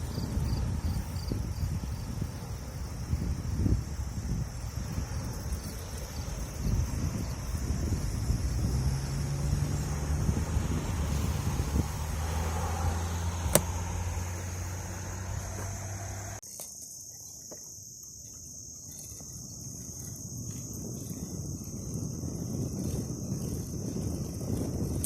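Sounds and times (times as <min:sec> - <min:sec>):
low rumble of wind: 0:00.0 - 0:16.4, 0:18.4 - 0:25.0
insects trilling: 0:00.0 - 0:25.0.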